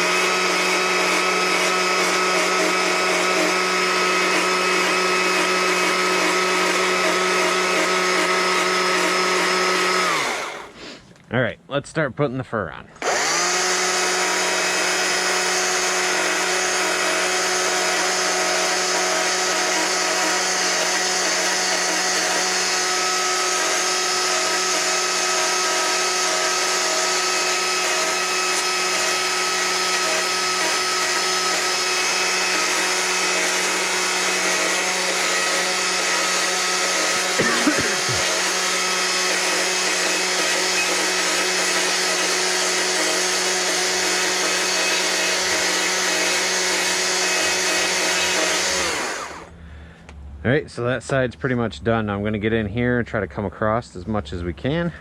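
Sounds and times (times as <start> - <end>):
die grinder high-pitched whine: 0.0 - 11.0, 13.0 - 49.6.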